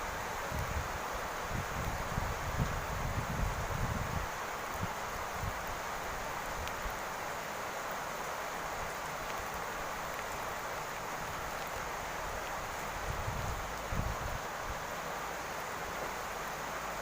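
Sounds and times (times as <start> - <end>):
rain falling on a roof: 0.0 - 17.0.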